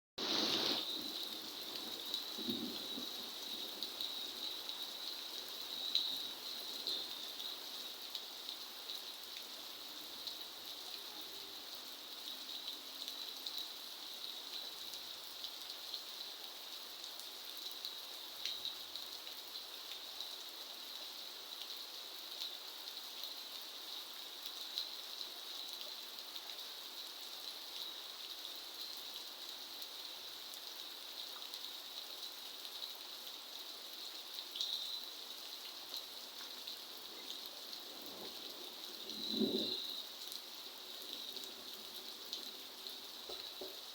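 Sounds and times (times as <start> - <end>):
raindrops pattering on surfaces: 0.2 - 43.9
steady rainfall: 0.2 - 43.9.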